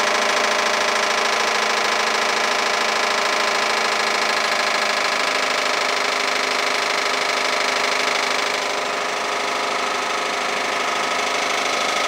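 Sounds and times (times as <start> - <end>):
tractor engine running: 0.0 - 12.0
wood chipper: 0.0 - 12.0.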